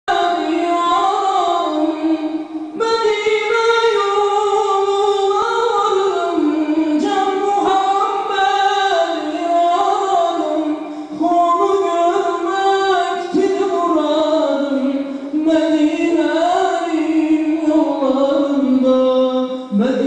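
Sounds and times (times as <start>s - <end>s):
unaccompanied hymn singing: 0.1s - 20.0s.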